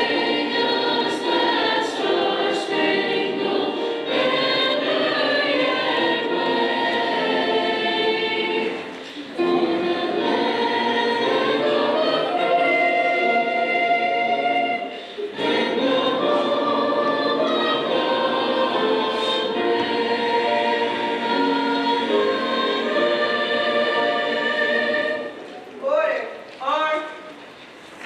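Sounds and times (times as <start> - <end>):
choir singing held chords: 0.0 - 25.6.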